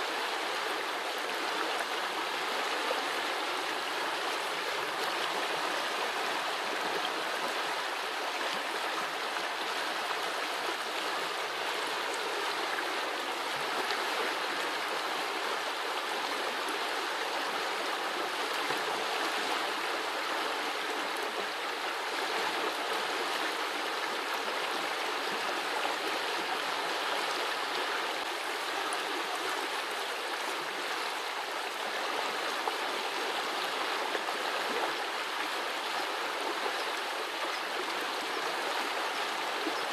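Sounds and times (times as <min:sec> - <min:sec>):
brook babbling and gurgling: 0:00.0 - 0:39.9.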